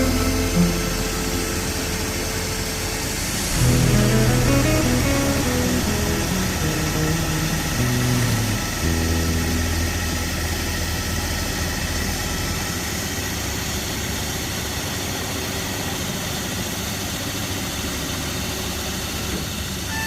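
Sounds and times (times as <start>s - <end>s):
drilling rig running: 0.0s - 16.5s.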